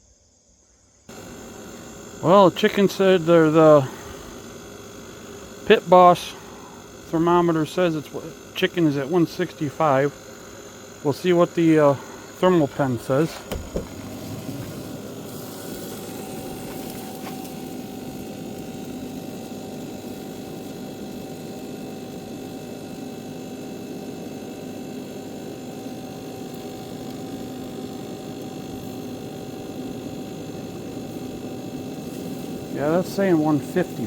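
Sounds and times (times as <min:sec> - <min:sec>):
fan motor hum: 0:01.1 - 0:34.0.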